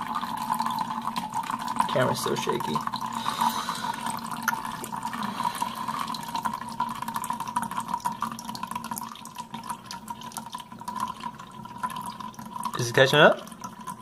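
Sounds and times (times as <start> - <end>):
water trickling into plastic cups: 0.0 - 14.0.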